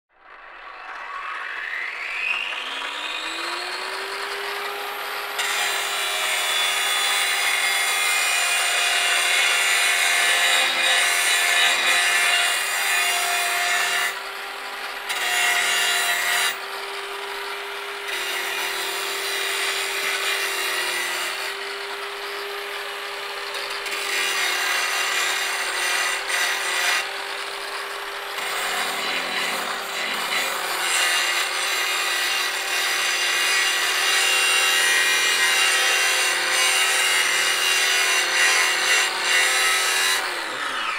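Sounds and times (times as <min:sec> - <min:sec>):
angle grinder motor whine: 0:00.2 - 0:40.9
grinder disc rasping on metal: 0:03.1 - 0:40.9.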